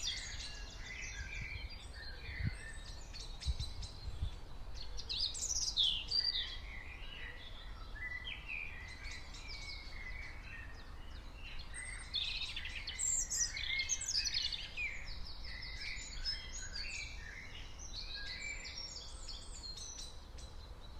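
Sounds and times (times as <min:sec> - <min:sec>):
birds chirping and singing: 0:00.0 - 0:20.9.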